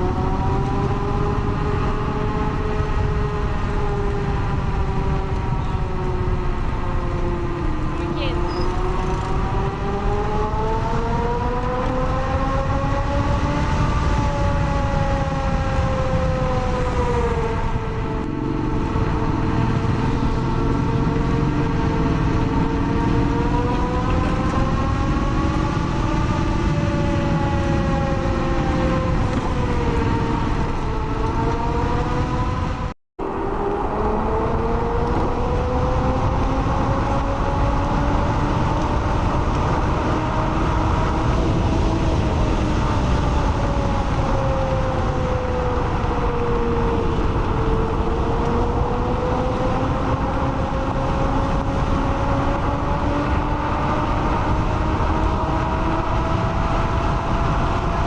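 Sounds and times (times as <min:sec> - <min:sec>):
electric scooter motor whine: 0:00.0 - 0:58.0
road and wind noise: 0:00.0 - 0:58.0.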